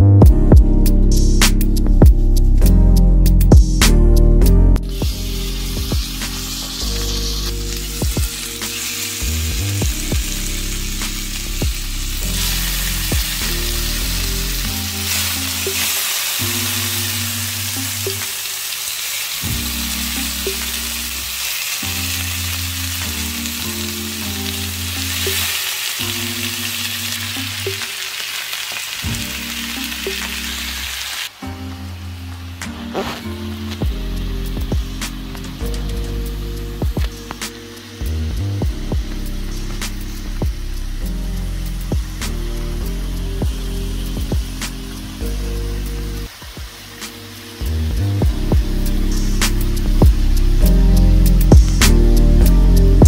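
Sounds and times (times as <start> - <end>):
background music low notes: 0.0 - 18.7, 19.4 - 53.0
skewers sizzling in hot oil: 4.8 - 53.0.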